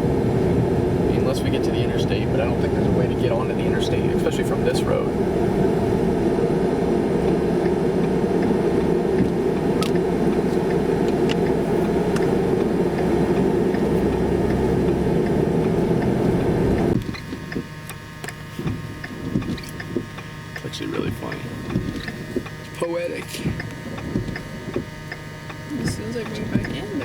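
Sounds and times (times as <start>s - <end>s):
road and engine noise in car: 0.0s - 27.0s.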